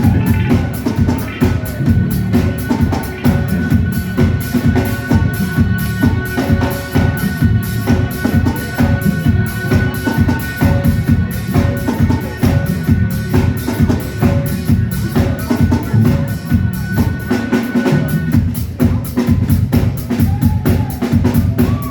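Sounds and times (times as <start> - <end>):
rock drum beat: 0.0 - 21.9.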